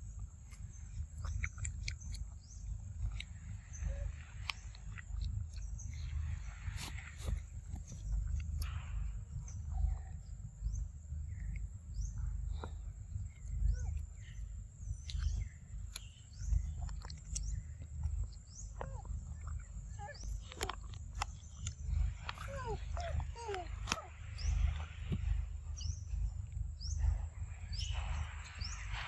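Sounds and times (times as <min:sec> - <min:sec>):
small birds chirping: 0:00.0 - 0:29.0
steady low rumble: 0:00.0 - 0:29.0
wet chewing and smacking: 0:00.0 - 0:29.0.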